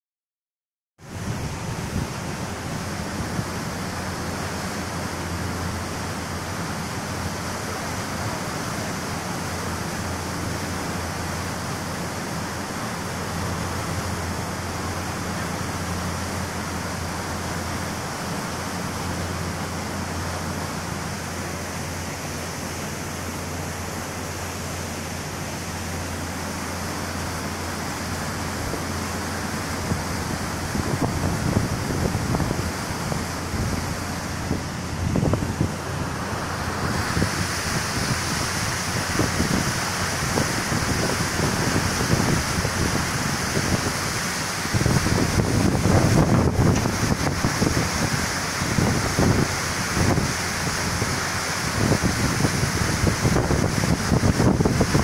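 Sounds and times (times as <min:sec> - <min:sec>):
low ship engine drone: 0:01.0 - 0:55.0
water rushing: 0:01.0 - 0:55.0
wind: 0:01.0 - 0:55.0.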